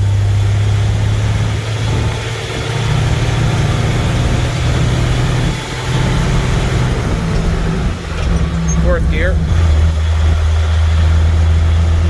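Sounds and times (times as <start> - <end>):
diesel truck engine pulling: 0.0 - 12.0.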